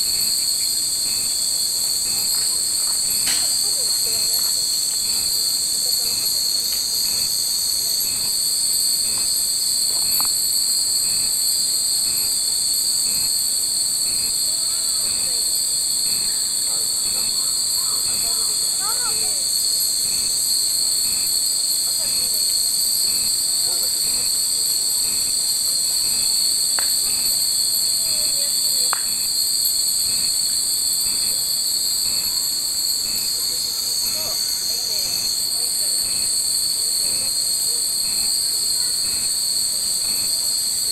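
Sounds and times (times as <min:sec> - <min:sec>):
cicada chorus: 0:00.0 - 0:40.9.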